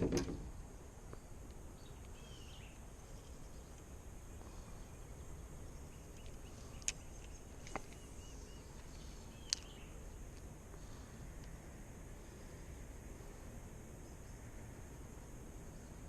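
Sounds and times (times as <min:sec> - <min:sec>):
low steady rumble: 0:00.0 - 0:16.0
faint chirping: 0:00.5 - 0:16.0.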